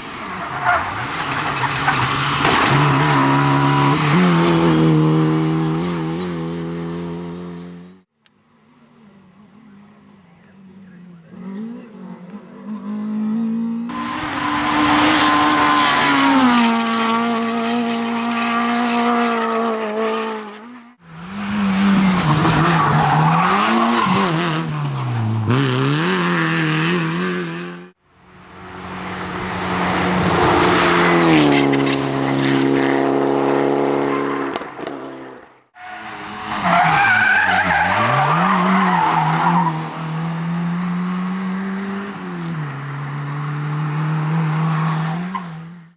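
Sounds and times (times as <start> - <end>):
tyres skidding on road: 0.0 - 7.0, 11.3 - 20.1, 21.0 - 45.9
rally car engines revving: 0.0 - 8.1, 9.0 - 45.9.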